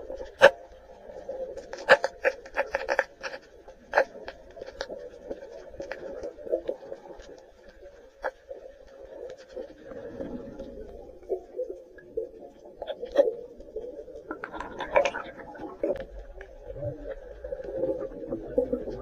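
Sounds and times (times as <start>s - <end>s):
dull underwater hum: 0.0s - 19.0s
underwater clicks and crackles: 0.0s - 19.0s.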